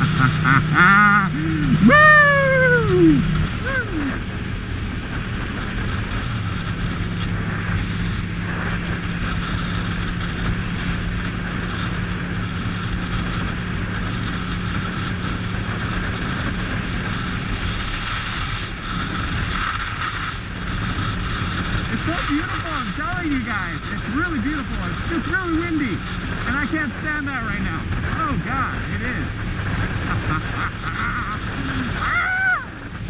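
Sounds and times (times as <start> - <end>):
motorcycle engine cruising: 0.0 - 33.0
wind on microphone: 0.0 - 33.0.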